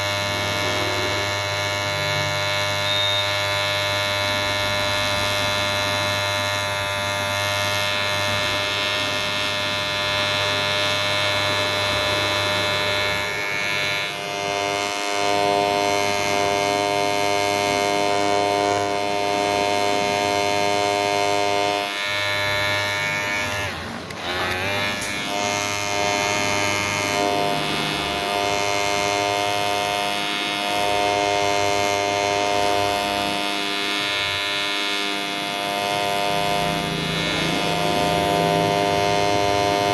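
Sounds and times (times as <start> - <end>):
electric hair clipper buzzing: 0.0 - 39.9.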